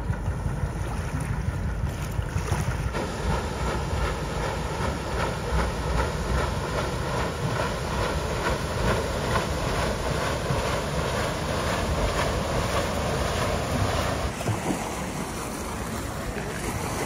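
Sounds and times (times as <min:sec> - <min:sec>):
paddle wheels churning water: 0:00.0 - 0:17.0
wind rumble on microphone: 0:00.0 - 0:17.0.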